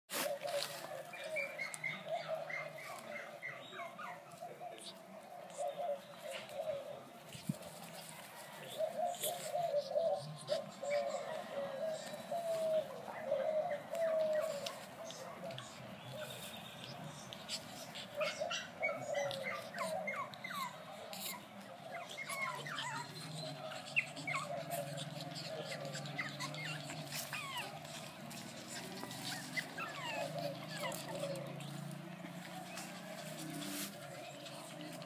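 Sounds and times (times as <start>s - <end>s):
puppies squeaking and whimpering: 0.2s - 8.1s, 8.7s - 35.0s.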